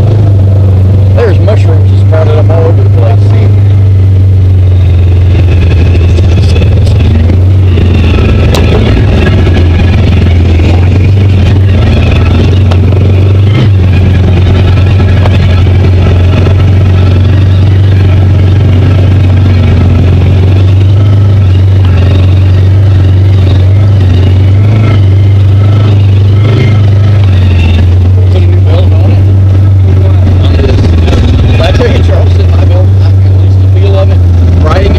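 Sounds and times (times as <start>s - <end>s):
utv engine droning: 0.0s - 34.9s.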